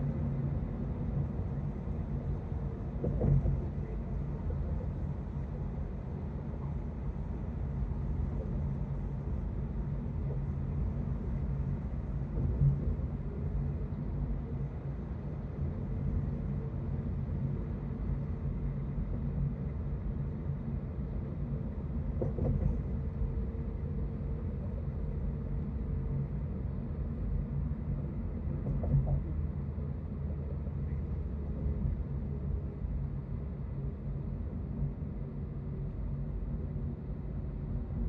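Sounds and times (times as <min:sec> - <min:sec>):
car road and engine rumble: 0:00.0 - 0:38.0
faint steady hum: 0:00.0 - 0:38.0.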